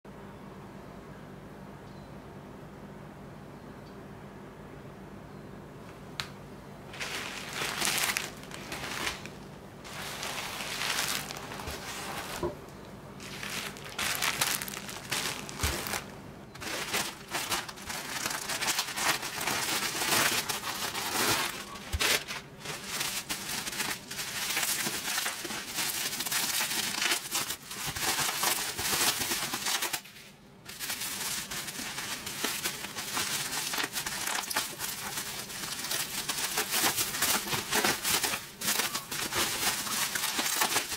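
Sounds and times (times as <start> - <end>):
plastic packaging crinkling: 6.9 - 12.6, 13.2 - 40.9.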